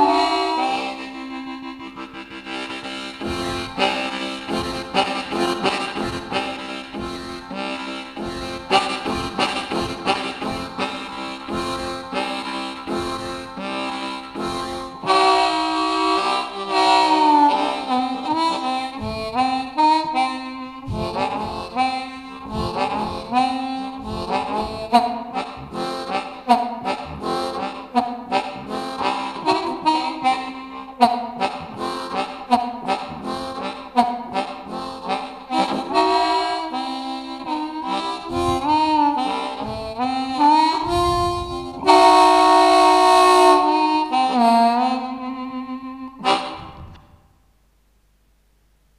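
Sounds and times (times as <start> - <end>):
harmonica playing train imitation: 0.0 - 47.1.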